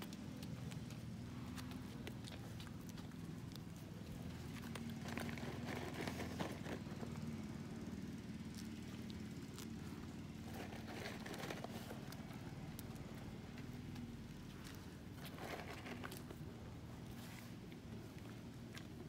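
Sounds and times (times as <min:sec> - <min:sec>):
hooves clicking on paving tiles: 0:00.0 - 0:19.0
steady low hum: 0:00.0 - 0:19.0.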